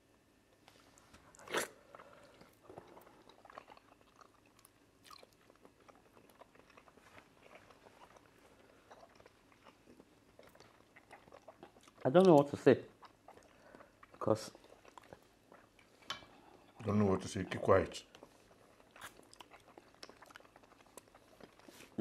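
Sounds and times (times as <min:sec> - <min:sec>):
soft chewing: 0:00.5 - 0:22.0.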